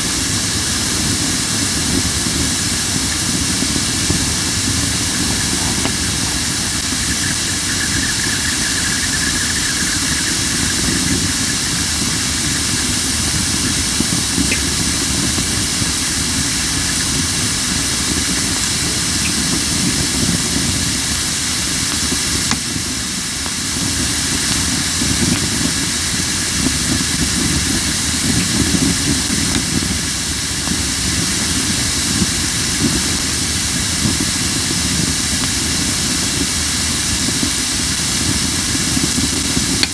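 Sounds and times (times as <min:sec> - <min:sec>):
fire crackling: 0:00.0 - 0:39.9
low flame rumble: 0:00.0 - 0:39.9
wood hissing in campfire: 0:00.0 - 0:39.9.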